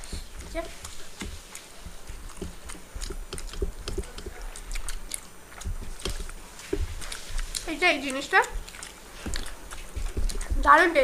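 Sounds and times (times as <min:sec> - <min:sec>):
mouth clicks and smacks: 0:00.0 - 0:11.0
people chewing food: 0:00.0 - 0:11.0.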